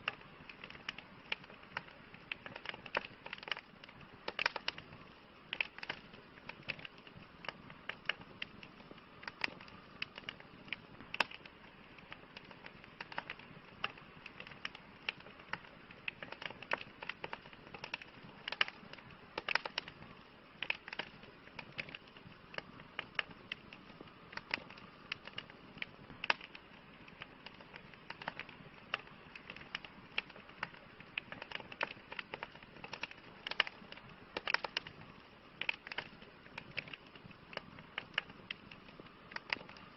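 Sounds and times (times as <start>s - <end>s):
campfire crackling and popping: 0.0s - 39.9s
soft steady hiss: 0.0s - 39.9s.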